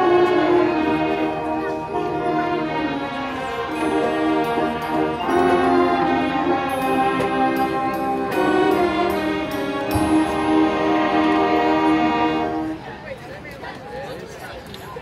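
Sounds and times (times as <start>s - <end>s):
marching band brass chords: 0.0s - 13.0s.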